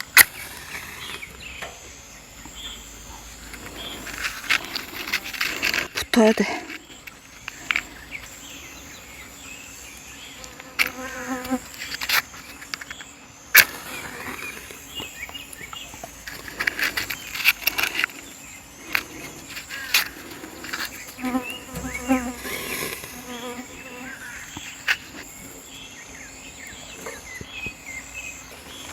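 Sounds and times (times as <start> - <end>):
fly buzzing: 0.0 - 28.9
insects chirring: 0.0 - 28.9.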